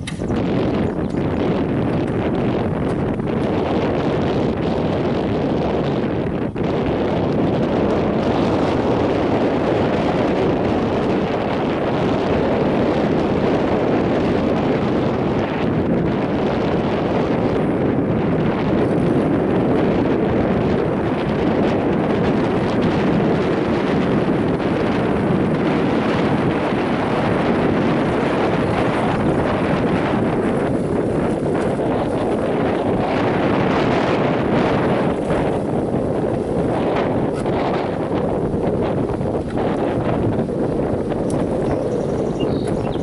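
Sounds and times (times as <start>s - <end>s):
outboard motor running: 0.0s - 43.0s
wind buffeting microphone: 0.0s - 43.0s.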